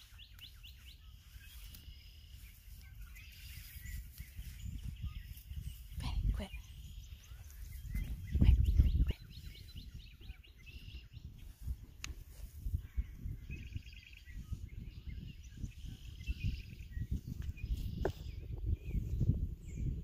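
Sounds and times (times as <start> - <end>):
small birds chirping: 0.0 - 20.0
wind rumble on microphone: 0.0 - 20.0.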